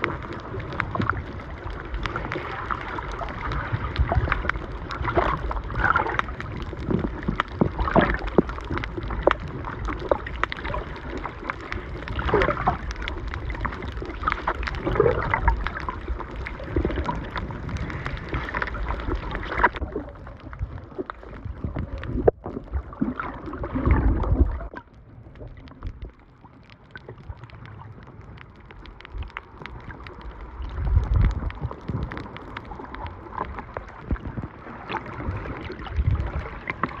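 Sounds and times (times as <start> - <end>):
muffled underwater sloshing: 0.0 - 37.0.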